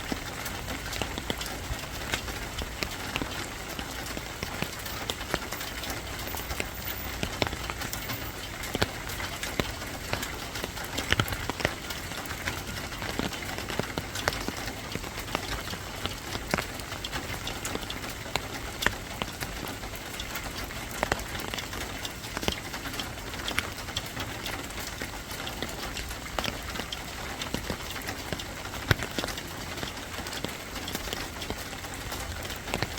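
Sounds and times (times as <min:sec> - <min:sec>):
rain falling on a surface: 0:00.0 - 0:32.9.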